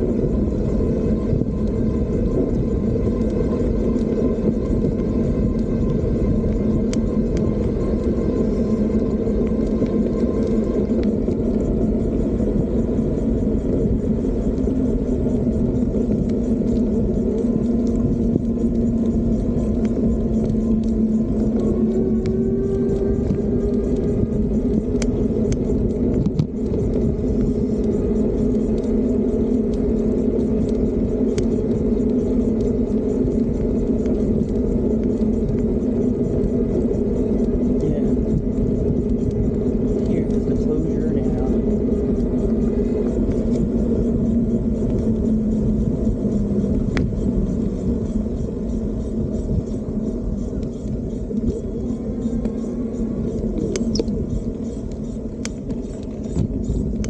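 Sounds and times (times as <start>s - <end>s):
small clicks and rattles: 0.0s - 57.0s
wind rumble on microphone: 0.0s - 57.0s.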